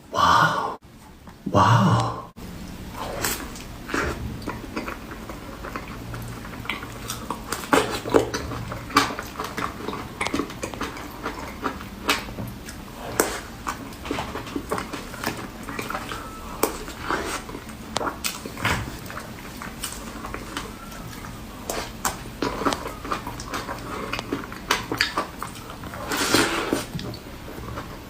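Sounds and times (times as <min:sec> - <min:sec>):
person chewing and lip smacking: 0:02.7 - 0:28.0.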